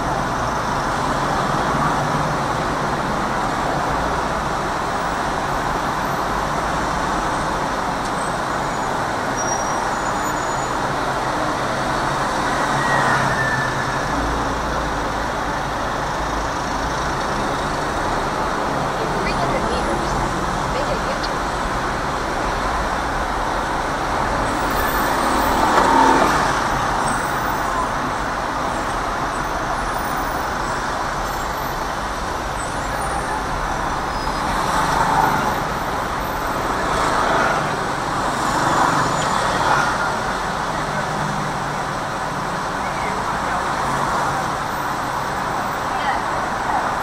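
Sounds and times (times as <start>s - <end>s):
traffic engine and road noise: 0.0s - 47.0s
vehicles passing close by: 0.0s - 47.0s.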